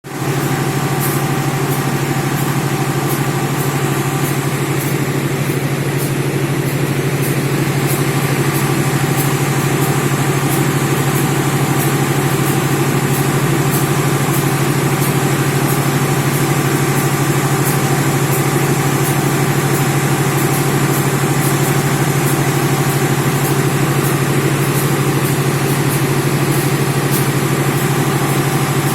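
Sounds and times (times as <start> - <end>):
diesel generator humming: 0.1 - 28.9.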